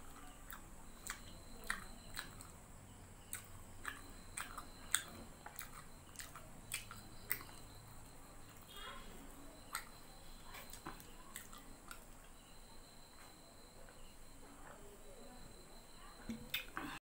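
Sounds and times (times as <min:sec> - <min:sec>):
mouth chewing food: 0:00.0 - 0:14.3, 0:15.0 - 0:17.0.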